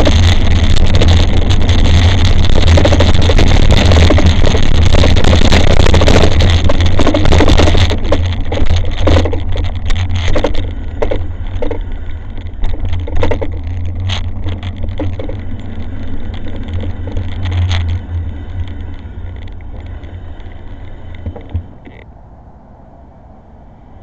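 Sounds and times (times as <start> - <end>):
bike rattling over bumps: 0.0 - 22.1
bike riding rumble: 0.0 - 24.0.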